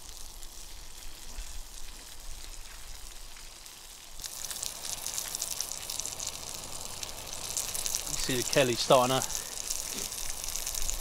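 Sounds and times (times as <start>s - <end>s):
sausages and bacon sizzling: 0.0s - 11.0s.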